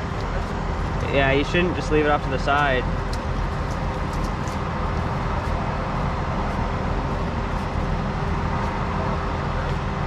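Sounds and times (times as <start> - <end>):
engine droning steadily: 0.0 - 10.0.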